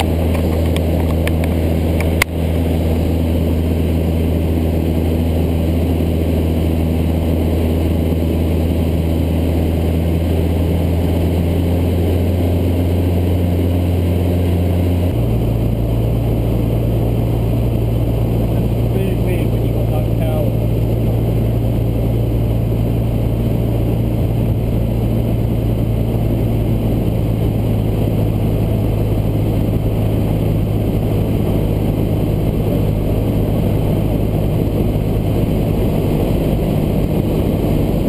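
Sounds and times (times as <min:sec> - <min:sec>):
airplane engine droning: 0:00.0 - 0:38.0.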